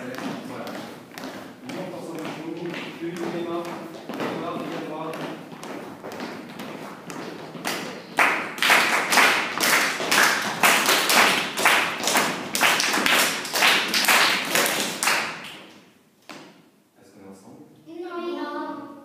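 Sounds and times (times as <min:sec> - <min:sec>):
people clapping in rhythm: 0:00.0 - 0:15.8.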